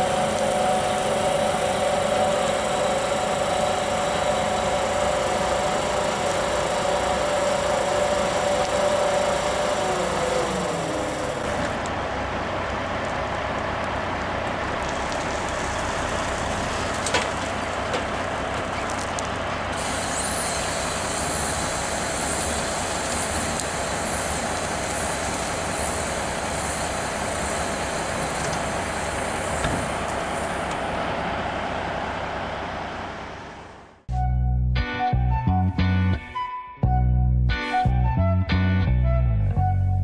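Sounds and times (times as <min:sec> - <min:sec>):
diesel truck engine running: 0:00.0 - 0:34.1.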